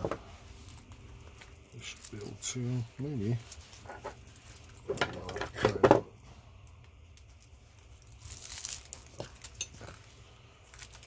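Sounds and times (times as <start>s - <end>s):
wire crinkling and tearing: 0.0s - 5.8s, 6.6s - 11.0s.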